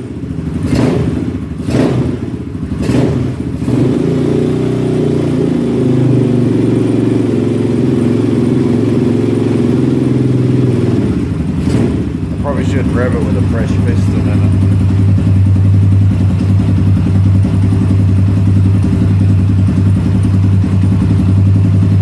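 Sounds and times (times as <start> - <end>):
dirt bike engine revving and idling: 0.0 - 22.0.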